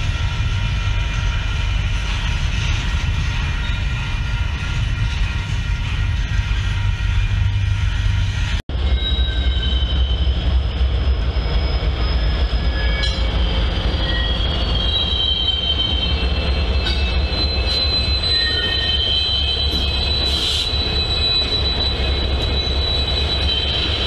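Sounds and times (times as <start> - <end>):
diesel locomotives rumbling: 0.0 - 24.0
freight train rumbling past: 0.0 - 24.0
train wheels squealing: 0.0 - 24.0.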